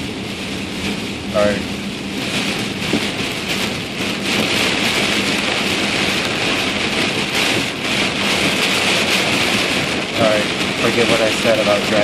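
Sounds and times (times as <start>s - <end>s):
heavy rain on car: 0.0s - 12.0s.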